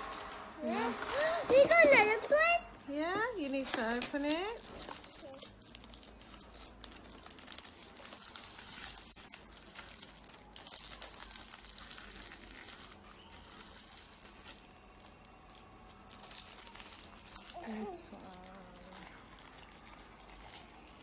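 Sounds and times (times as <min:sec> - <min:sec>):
wrapper crinkling and tearing: 0:03.3 - 0:21.0.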